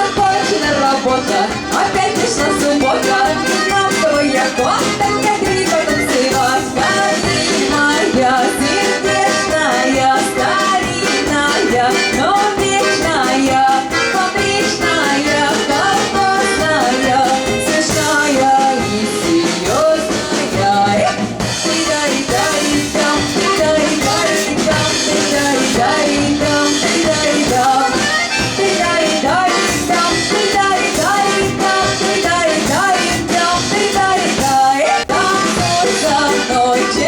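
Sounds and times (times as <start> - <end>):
folk ensemble dance music: 0.0 - 37.0.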